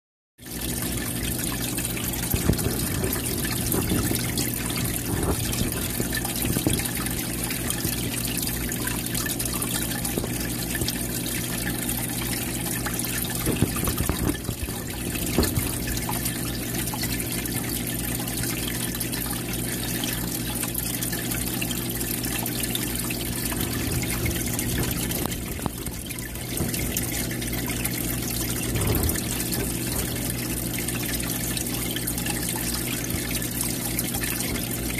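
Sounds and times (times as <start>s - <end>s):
filter water splashing: 0.4s - 34.9s
pump humming: 0.4s - 34.9s.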